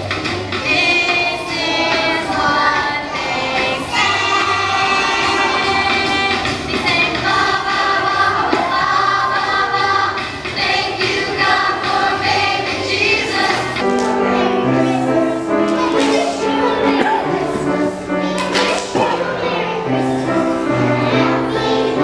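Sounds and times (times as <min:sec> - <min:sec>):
children's choir singing: 0:00.0 - 0:22.0
musical accompaniment: 0:00.0 - 0:22.0.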